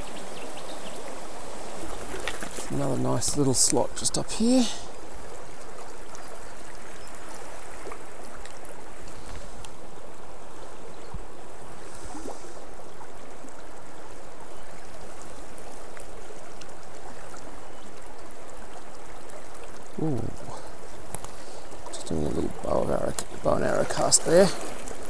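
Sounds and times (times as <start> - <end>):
river flowing over stones: 0.0 - 25.0.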